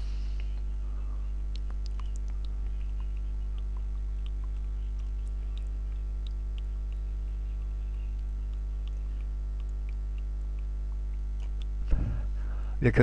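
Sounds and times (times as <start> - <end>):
low electrical hum: 0.0 - 13.0
faint irregular clicks: 0.3 - 11.9.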